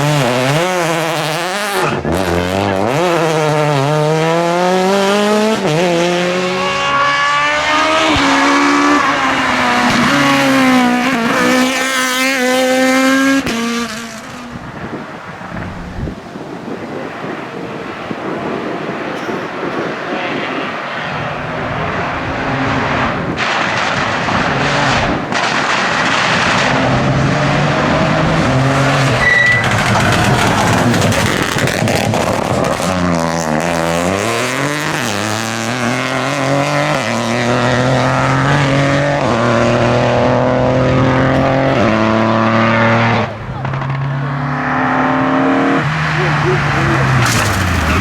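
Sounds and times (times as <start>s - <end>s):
rally car engine revving: 0.0s - 48.0s
tyres skidding: 0.0s - 48.0s.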